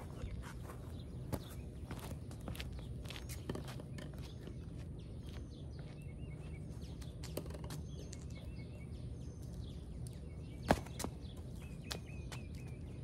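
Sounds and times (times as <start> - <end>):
footsteps on pavement: 0.0 - 8.6, 9.3 - 13.0
bird chirps: 0.0 - 13.0.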